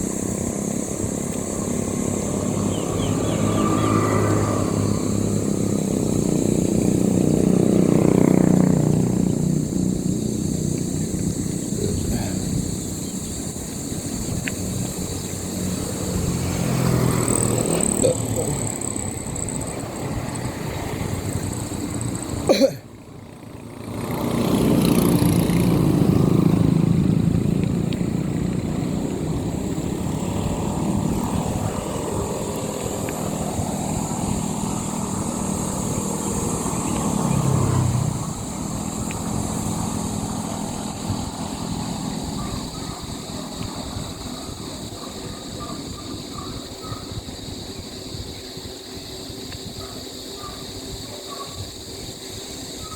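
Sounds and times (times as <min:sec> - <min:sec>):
motorcycle engine running: 0:00.0 - 0:52.9
road and wind noise: 0:00.0 - 0:52.9.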